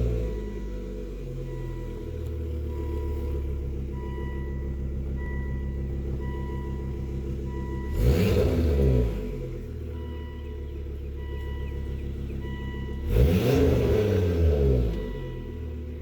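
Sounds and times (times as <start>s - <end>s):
car engine idling: 0.0s - 16.0s
engine throttle blip: 1.5s - 16.0s.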